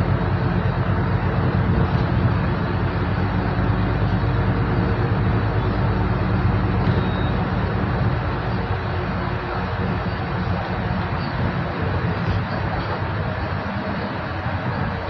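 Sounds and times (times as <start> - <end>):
bus engine running: 0.0 - 15.0
tyre and road noise: 0.0 - 15.0.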